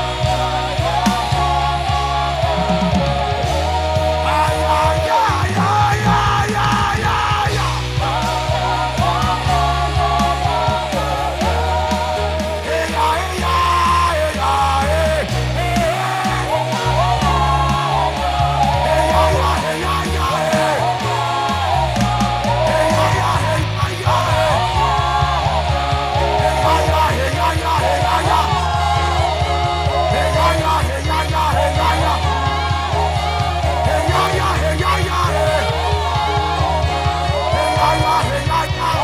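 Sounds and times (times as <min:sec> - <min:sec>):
live worship band playing: 0:00.0 - 0:39.0
vocal melody: 0:00.0 - 0:39.0.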